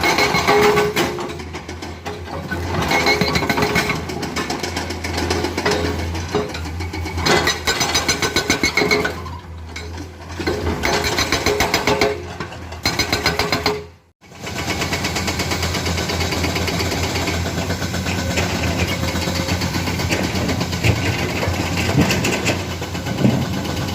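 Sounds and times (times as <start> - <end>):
excavator diesel engine clattering: 0.0 - 23.9.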